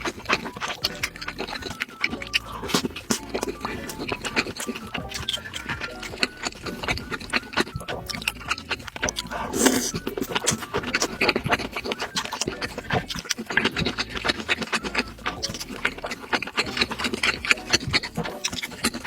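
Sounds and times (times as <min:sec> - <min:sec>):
chewing and mouth sounds: 0:00.0 - 0:19.0.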